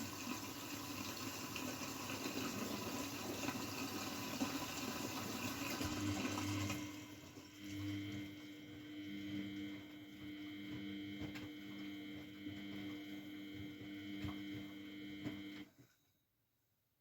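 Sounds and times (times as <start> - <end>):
washing machine humming: 0.0 - 15.8.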